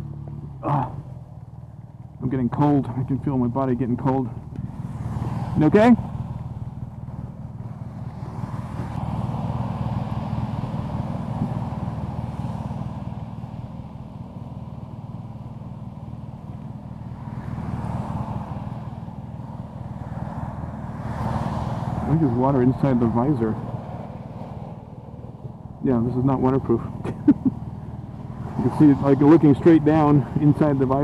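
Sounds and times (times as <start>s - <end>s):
motorcycle engine idling: 0.0s - 21.0s, 22.3s - 31.0s.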